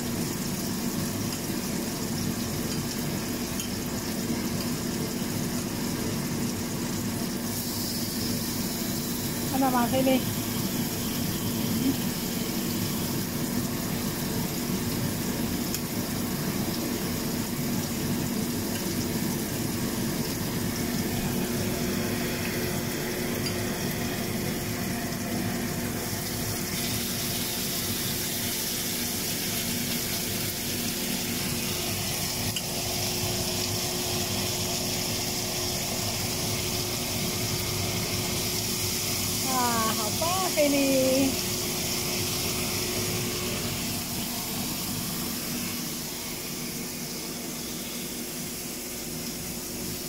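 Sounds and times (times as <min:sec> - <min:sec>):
fish sizzling in oil: 0:00.0 - 0:50.0.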